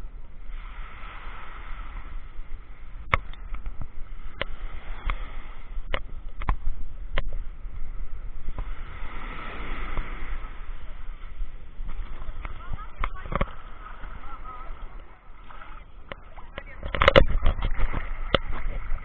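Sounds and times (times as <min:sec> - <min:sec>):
sea waves washing in: 0:00.0 - 0:19.0
wind rumble on microphone: 0:00.0 - 0:19.0.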